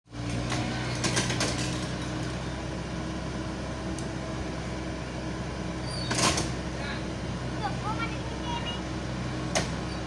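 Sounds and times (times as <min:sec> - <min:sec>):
diesel engine running at low revs: 0:00.1 - 0:10.0.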